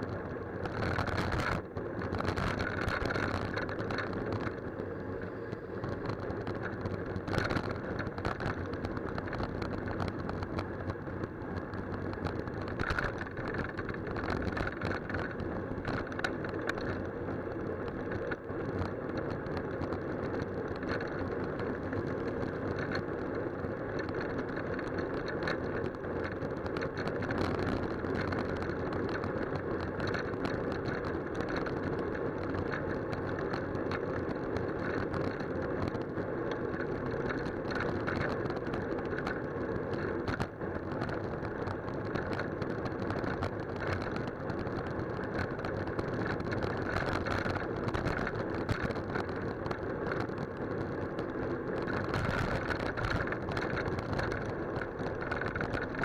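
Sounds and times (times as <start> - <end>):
bicycle tyre and road noise: 0.0 - 56.0
bike rattles and knocks: 0.2 - 4.7, 5.8 - 23.3, 23.9 - 56.0.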